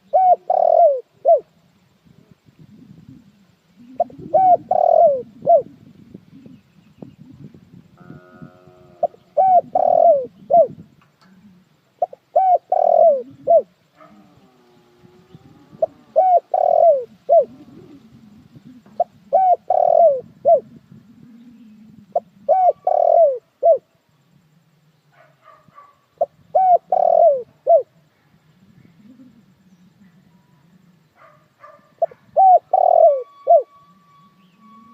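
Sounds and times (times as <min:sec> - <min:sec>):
dove cooing: 0:00.0 - 0:01.5, 0:02.1 - 0:24.0, 0:25.4 - 0:34.9.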